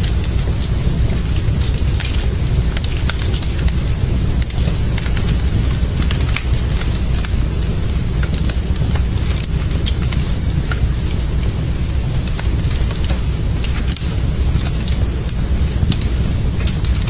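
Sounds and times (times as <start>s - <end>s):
fire low rumble: 0.0s - 17.0s
wood crackling and popping: 0.0s - 17.0s.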